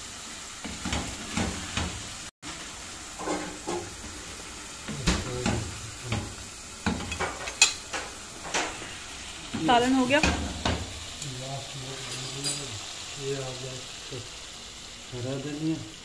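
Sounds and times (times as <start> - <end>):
curry sizzling in a pot: 0.0 - 16.0.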